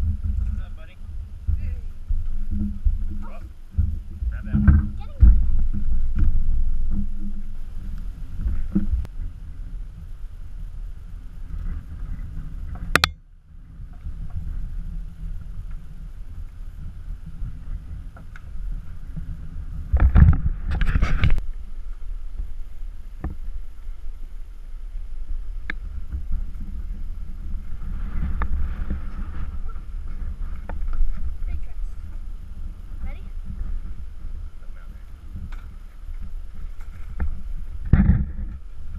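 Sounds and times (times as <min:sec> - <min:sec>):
rustling: 0:00.0 - 0:38.9
wind buffeting microphone: 0:00.0 - 0:38.9.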